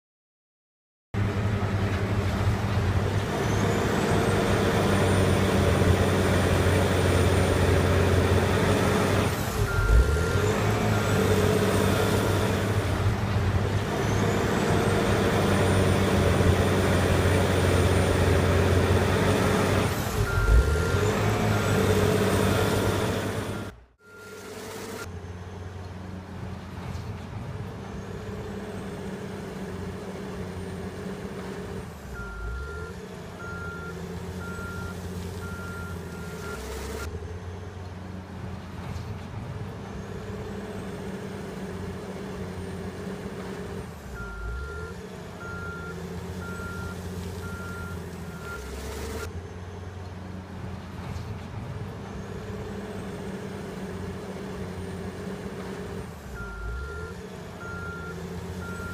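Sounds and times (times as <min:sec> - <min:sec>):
diesel engine running: 0:01.2 - 0:58.9.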